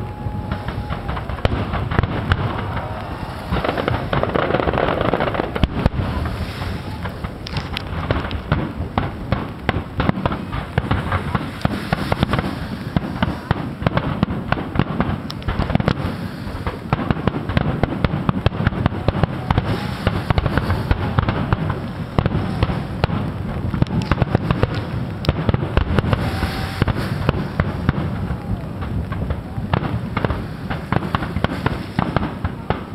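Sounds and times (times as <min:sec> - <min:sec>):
fireworks crackling bangs: 0:00.0 - 0:32.9.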